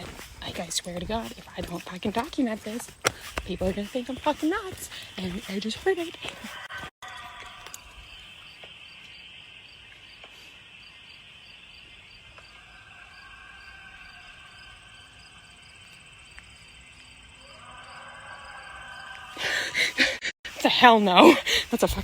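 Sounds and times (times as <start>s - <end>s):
insect chirps: 0.0s - 19.4s.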